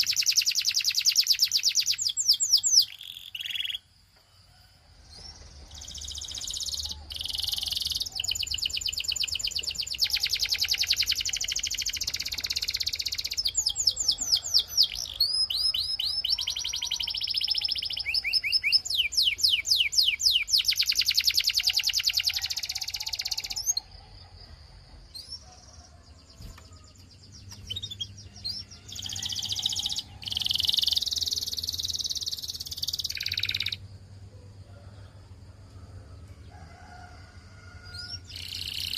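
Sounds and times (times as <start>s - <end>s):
canary singing trills: 0.0s - 3.9s, 5.1s - 24.4s, 25.0s - 33.9s, 37.9s - 38.9s
faint bird chirps: 0.0s - 35.0s, 37.9s - 38.9s.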